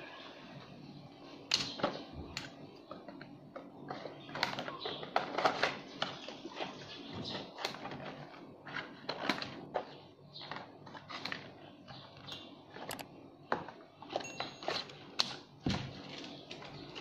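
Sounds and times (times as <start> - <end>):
cardboard rustling and crinkling: 3.0 - 17.0.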